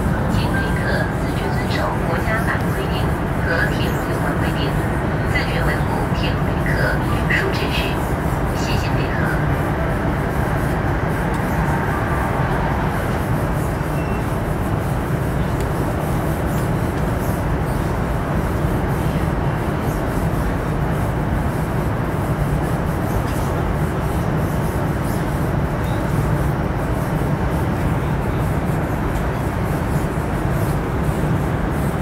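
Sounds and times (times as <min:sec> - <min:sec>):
high-speed train running noise: 0:00.0 - 0:32.0.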